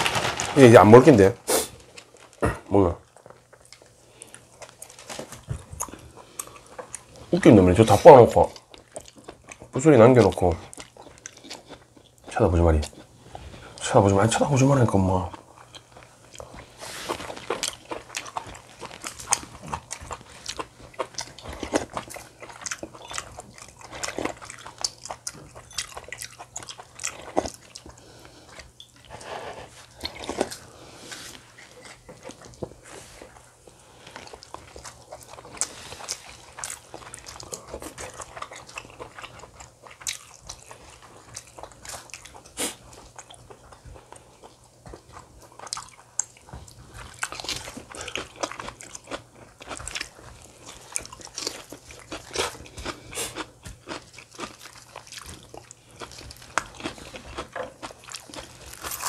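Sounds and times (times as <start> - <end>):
crunchy chewing: 1.7 - 59.0.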